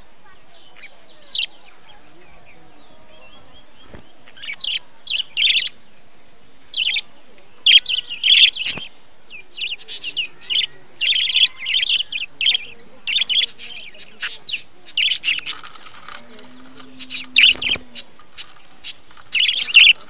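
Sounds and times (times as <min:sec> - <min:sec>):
budgerigars chirping and chattering: 0:00.2 - 0:06.0, 0:06.6 - 0:20.0.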